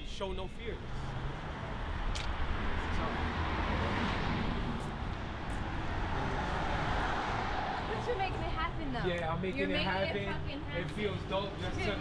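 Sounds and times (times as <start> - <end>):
cars driving past: 0.3 - 12.0.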